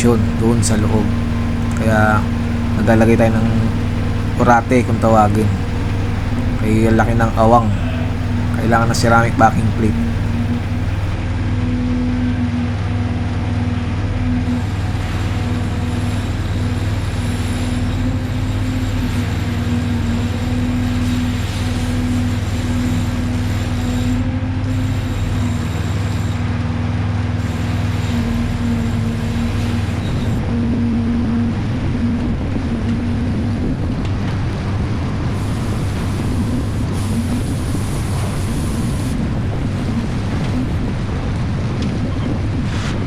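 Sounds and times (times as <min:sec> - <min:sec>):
industrial machinery drone: 0:00.0 - 0:43.0.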